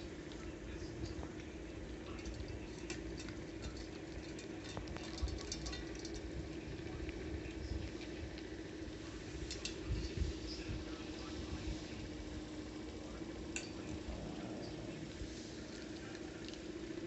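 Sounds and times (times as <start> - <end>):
cats chewing wet clicks: 0.0 - 17.0
steady low hum: 0.0 - 17.0.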